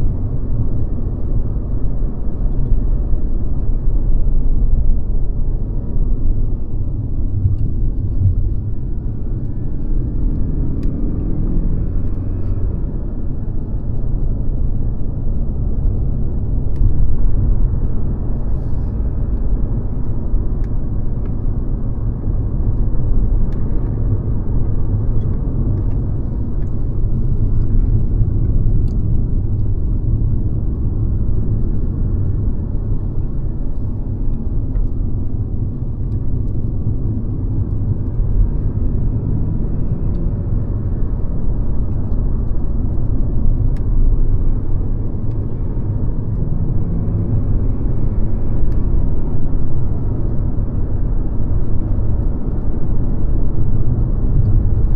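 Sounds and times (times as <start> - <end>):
car engine and road rumble: 0.0 - 54.9.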